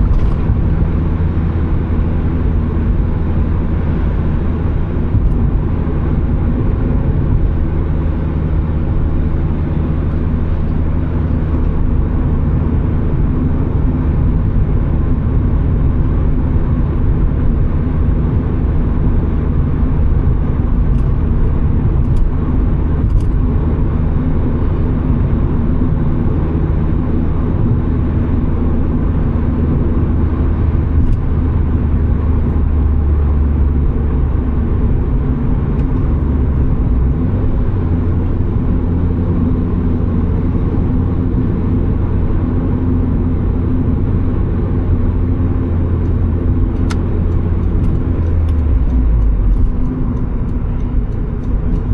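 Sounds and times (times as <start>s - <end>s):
car engine running: 0.0s - 51.9s
road and tyre noise: 0.0s - 51.9s.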